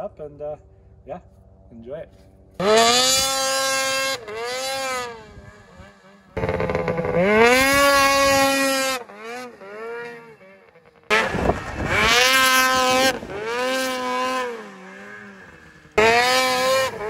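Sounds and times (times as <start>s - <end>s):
snowmobile engines revving: 2.6s - 17.0s.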